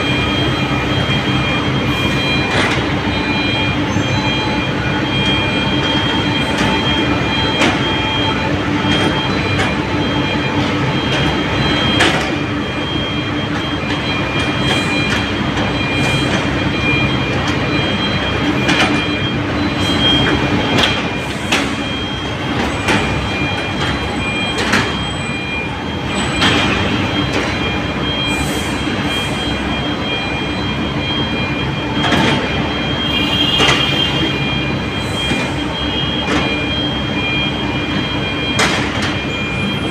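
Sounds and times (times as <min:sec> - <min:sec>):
diesel excavator engine under load: 0:00.0 - 0:39.9
metal tracks clanking and squeaking: 0:00.0 - 0:39.9.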